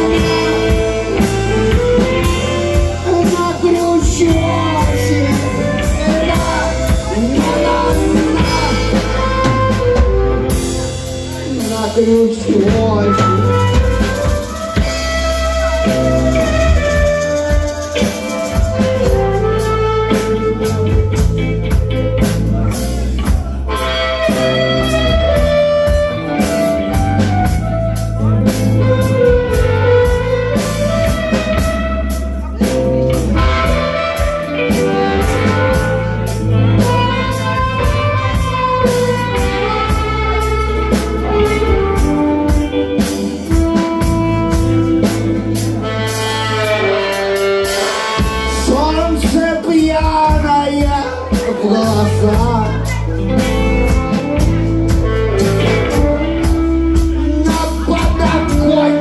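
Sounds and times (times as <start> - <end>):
live blues-rock band playing: 0.0 - 59.0.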